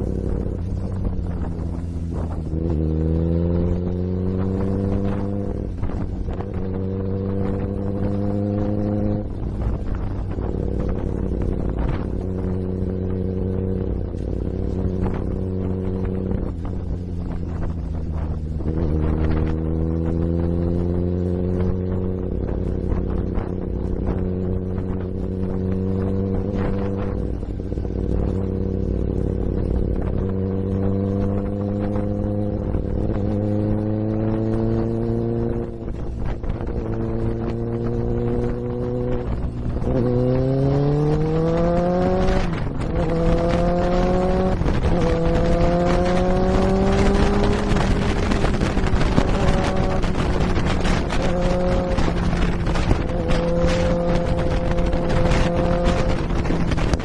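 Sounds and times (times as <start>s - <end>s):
motorcycle engine revving through gears: 0.0s - 57.0s
rushing wind: 0.0s - 57.0s.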